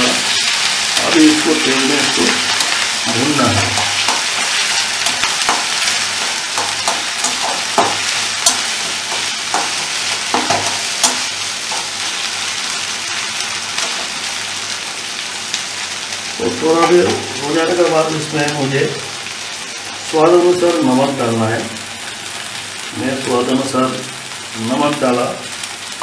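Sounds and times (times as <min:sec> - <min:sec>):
paste sizzling in hot oil: 0:00.0 - 0:26.0.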